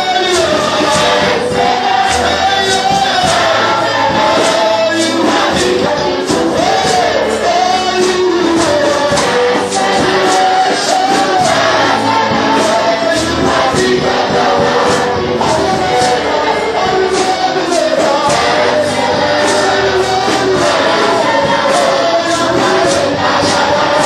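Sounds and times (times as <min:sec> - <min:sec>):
band playing worship song: 0:00.0 - 0:24.0
people singing: 0:00.0 - 0:24.0.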